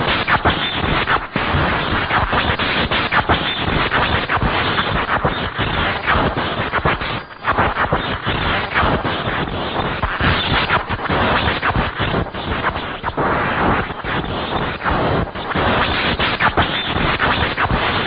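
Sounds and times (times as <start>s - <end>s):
electric spark crackling: 0.0s - 18.0s.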